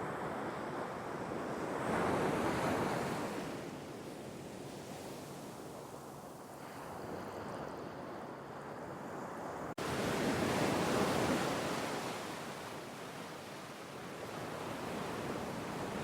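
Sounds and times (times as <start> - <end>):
sea waves washing in: 0.0 - 16.0.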